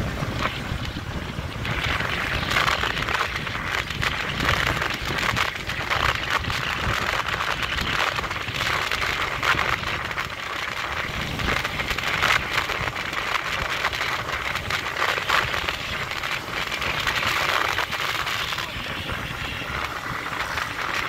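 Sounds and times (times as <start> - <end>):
engine and road rumble: 0.0 - 21.0
wind rushing over microphone: 0.0 - 21.0.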